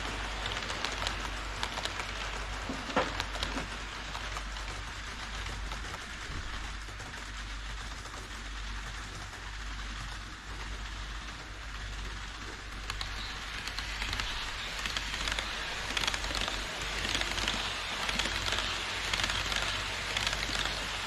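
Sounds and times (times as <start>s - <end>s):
model train wheels hissing on rails: 0.0s - 21.0s.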